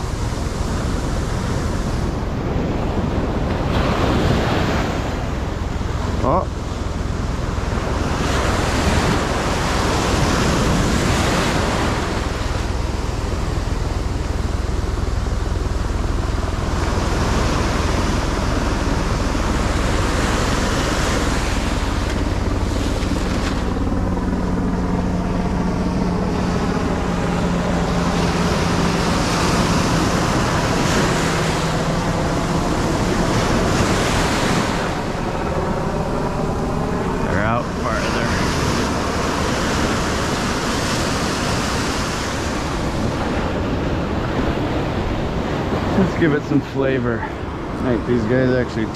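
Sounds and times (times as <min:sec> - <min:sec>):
ocean surf breaking on sand: 0:00.0 - 0:48.9
wind rumbling on microphone: 0:00.0 - 0:48.9.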